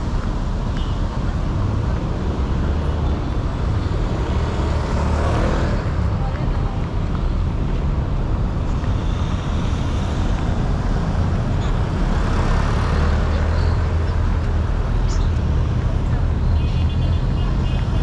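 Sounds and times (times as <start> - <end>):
heavy vehicle engine hum: 0.0 - 18.0
road traffic: 0.0 - 18.0.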